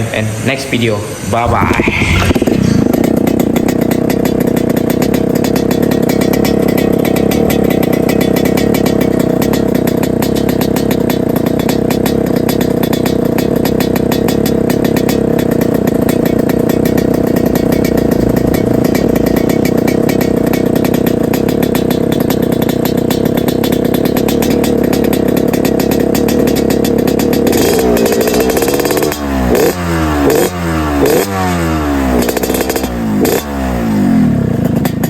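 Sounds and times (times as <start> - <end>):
two-stroke motorcycle engine running: 2.5 - 35.0.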